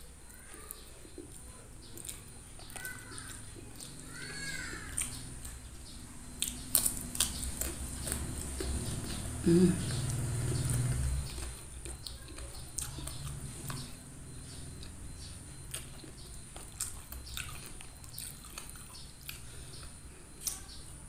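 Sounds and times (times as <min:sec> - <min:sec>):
chewing with wet clicks and smacks: 0:00.0 - 0:21.0.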